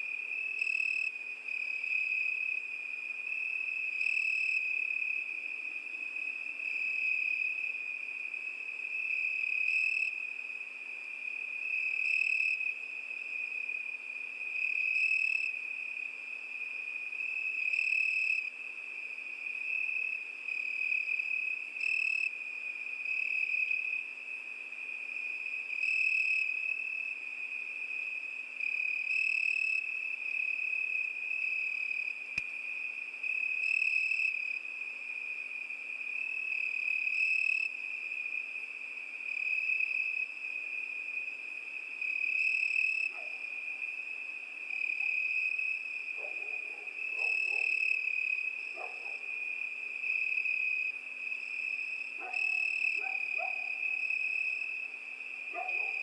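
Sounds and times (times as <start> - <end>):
crickets trilling: 11.2 - 56.0.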